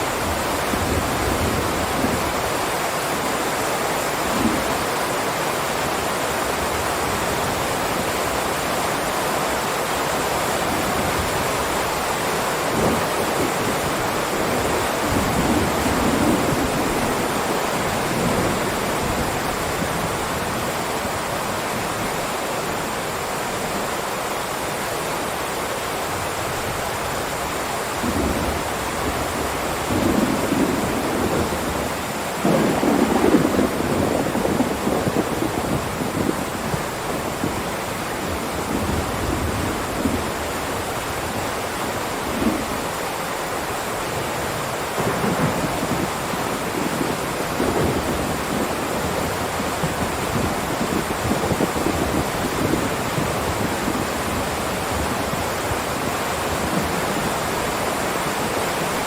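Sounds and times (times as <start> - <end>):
heavy rain downpour: 0.0 - 59.0.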